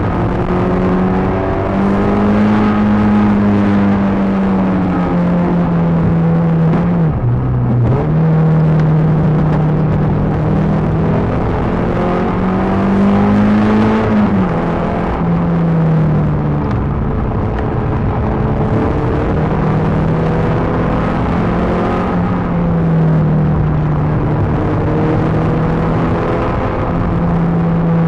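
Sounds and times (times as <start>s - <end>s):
car engine revving: 0.0s - 28.0s
road and wind noise: 0.0s - 28.0s.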